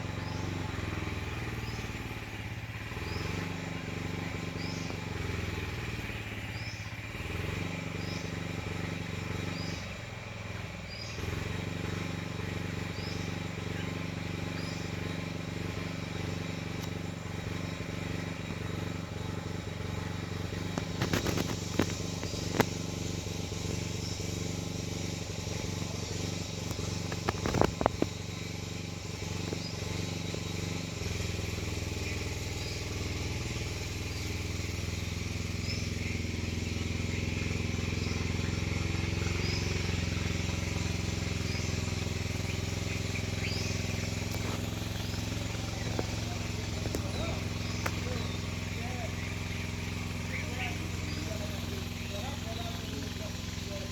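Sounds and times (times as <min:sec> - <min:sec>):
low engine-like hum: 0:00.0 - 0:53.9.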